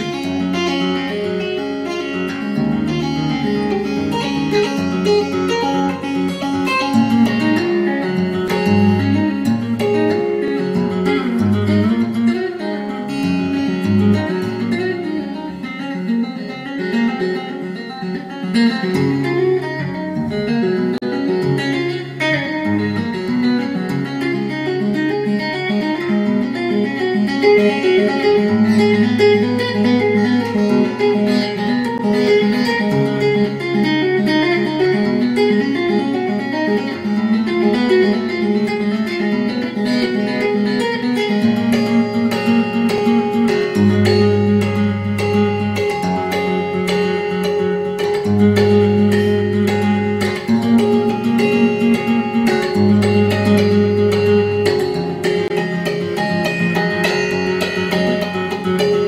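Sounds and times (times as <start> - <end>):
plucked guitar piece: 0.0 - 59.0.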